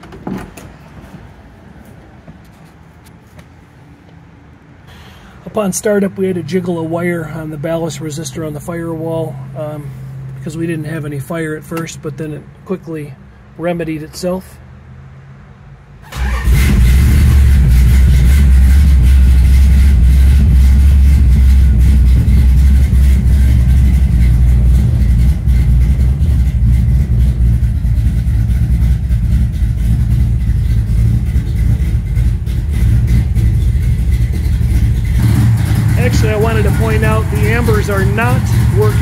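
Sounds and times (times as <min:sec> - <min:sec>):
car engine starting and running: 0:03.9 - 0:39.0.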